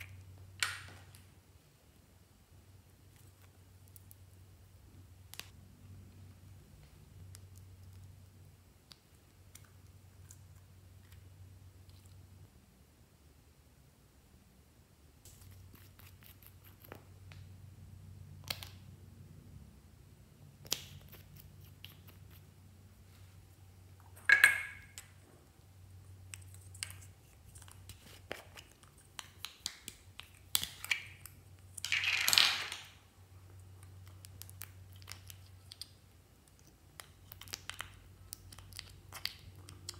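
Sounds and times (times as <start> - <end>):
low steady hum: 0.0 - 32.2.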